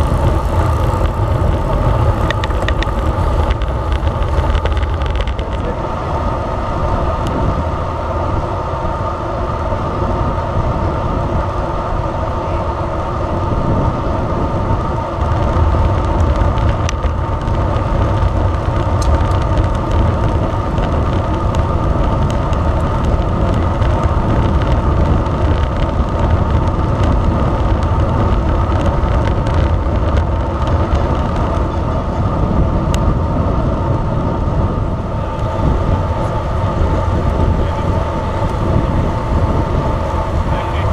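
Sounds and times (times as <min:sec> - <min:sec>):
bike tyres on tarmac: 0:00.0 - 0:40.9
steady hum: 0:00.0 - 0:40.9
wind rushing over microphone: 0:00.0 - 0:40.9.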